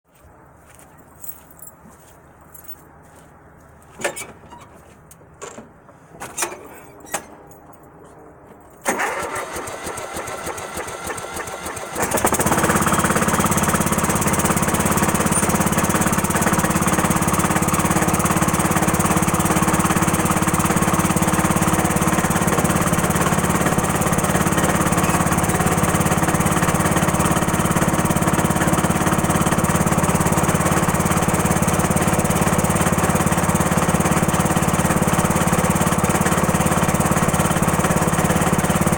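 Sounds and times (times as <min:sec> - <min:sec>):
mower engine cranking and running: 0:04.0 - 0:08.0, 0:08.8 - 0:38.9.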